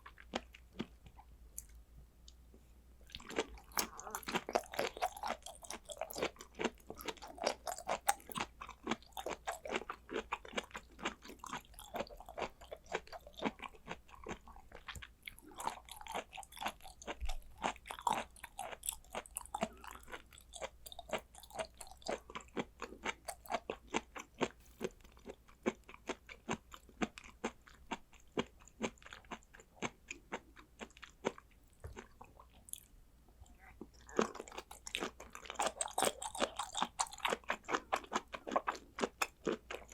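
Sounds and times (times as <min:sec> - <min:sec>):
chewing mouth clicks and smacks: 0:03.1 - 0:39.9.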